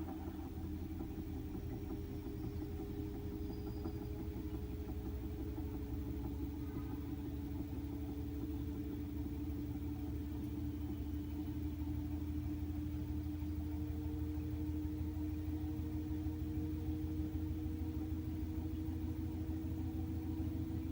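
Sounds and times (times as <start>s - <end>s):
washing machine spinning: 0.0s - 20.9s.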